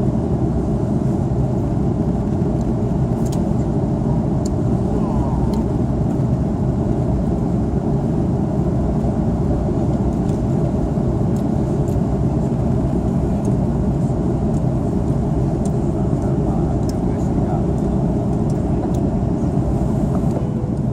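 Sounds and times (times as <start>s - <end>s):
airliner cabin engine roar: 0.0s - 20.9s.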